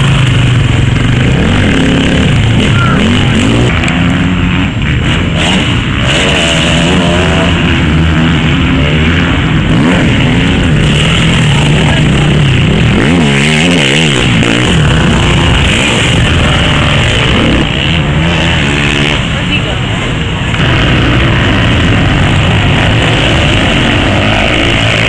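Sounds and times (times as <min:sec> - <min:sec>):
motocross engines revving: 0:00.0 - 0:25.0.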